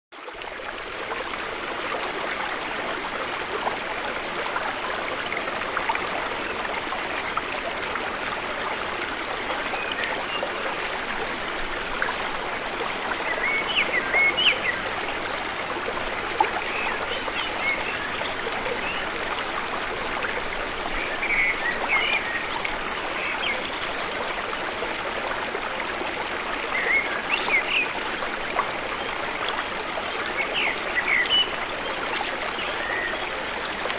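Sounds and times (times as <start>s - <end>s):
river water flowing: 0.1s - 33.9s.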